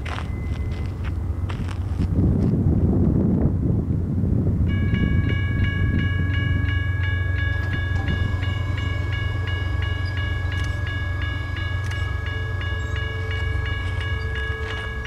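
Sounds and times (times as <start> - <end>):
crossing bell clanging: 0.0 - 2.2, 4.6 - 15.0
steady low rumble: 0.0 - 15.0.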